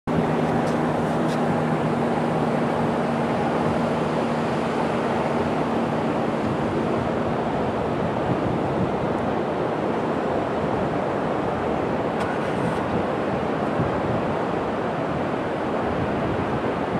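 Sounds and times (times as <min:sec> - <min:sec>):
ocean surf breaking: 0:00.1 - 0:16.9.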